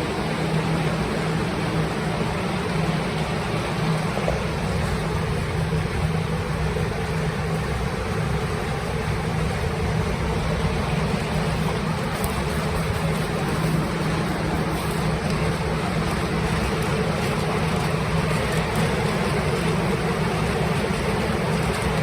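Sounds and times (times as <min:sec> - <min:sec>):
blower fans rushing air: 0:00.0 - 0:22.0.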